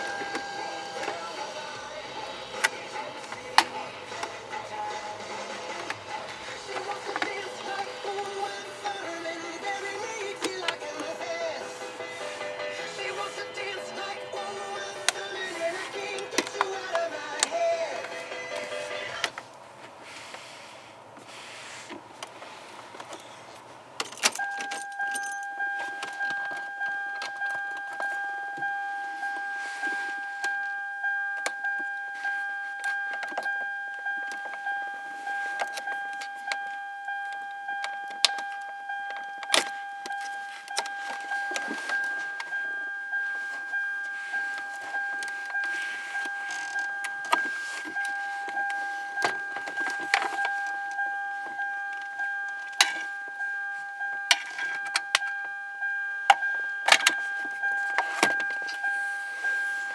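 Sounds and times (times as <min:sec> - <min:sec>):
car warning chime dinging: 0:00.0 - 0:19.4, 0:24.0 - 0:59.9.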